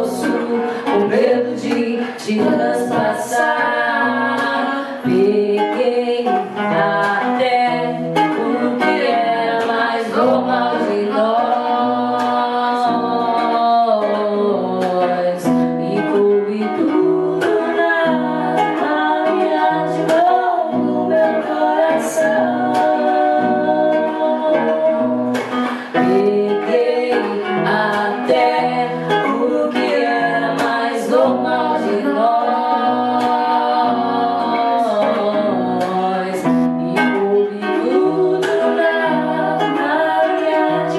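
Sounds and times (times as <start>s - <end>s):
person singing: 0.0s - 40.9s
plucked guitar: 0.0s - 40.9s.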